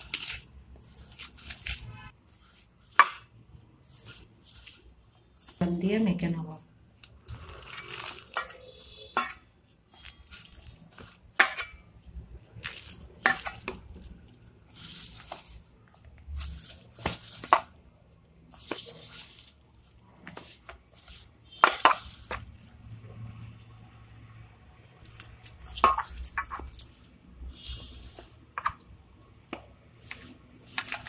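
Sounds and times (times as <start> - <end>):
dough rustling against steel bowl: 0.0 - 6.0, 7.0 - 23.7, 25.0 - 28.9, 29.5 - 31.0.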